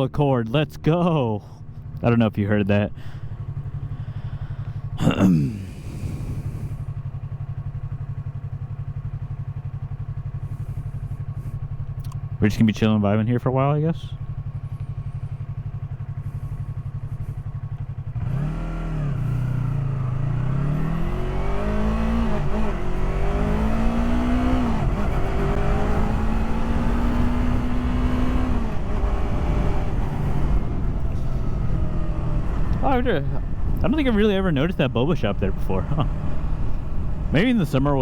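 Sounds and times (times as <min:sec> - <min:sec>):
motorcycle engine: 0:00.9 - 0:38.0.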